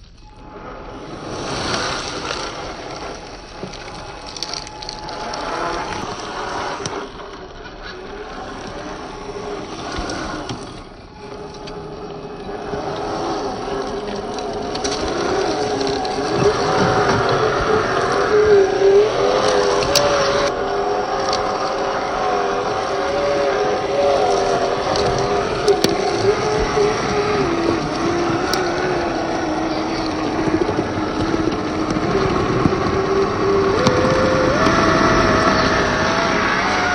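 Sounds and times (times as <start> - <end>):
electric motor and gear whine: 0.0 - 36.9.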